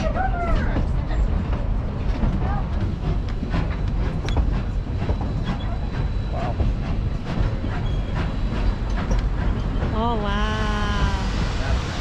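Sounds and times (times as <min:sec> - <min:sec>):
train rumbling along track: 0:00.0 - 0:12.0
wheels clacking on rails: 0:00.0 - 0:12.0.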